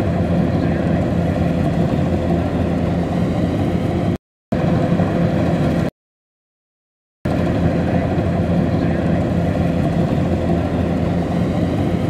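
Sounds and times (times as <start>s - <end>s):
diesel engines running: 0.0s - 5.9s, 7.3s - 12.0s.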